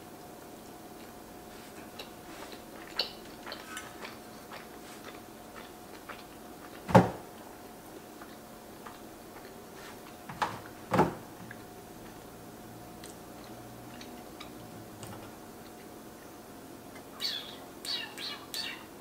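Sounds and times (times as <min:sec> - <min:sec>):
chewing pasta: 0:00.2 - 0:10.2, 0:11.5 - 0:17.2.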